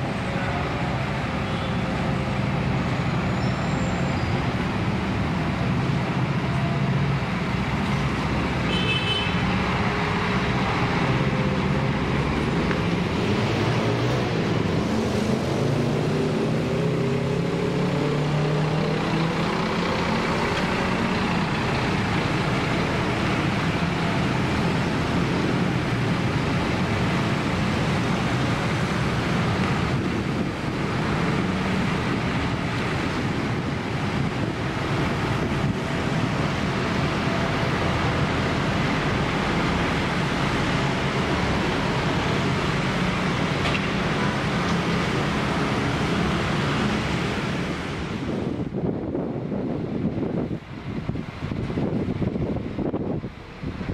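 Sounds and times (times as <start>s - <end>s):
diesel bus engine rumble: 0.0s - 53.9s
road and wind noise: 0.0s - 53.9s.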